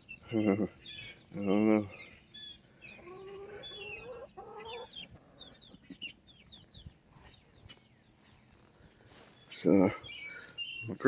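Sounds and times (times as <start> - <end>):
chickens clucking: 0.0 - 10.4.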